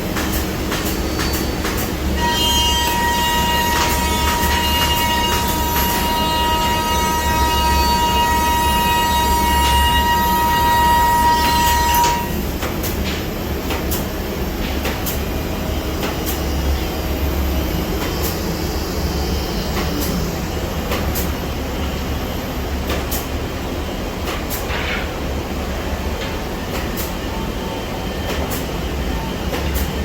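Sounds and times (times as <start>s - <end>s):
high machine whine: 0.0s - 24.2s.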